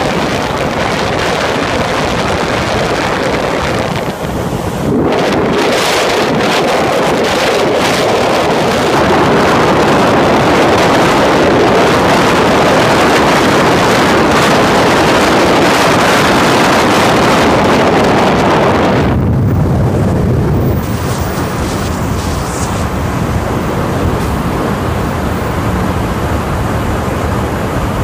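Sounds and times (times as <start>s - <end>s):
road and engine noise: 0.0s - 28.0s
wind rushing over microphone: 0.0s - 28.0s.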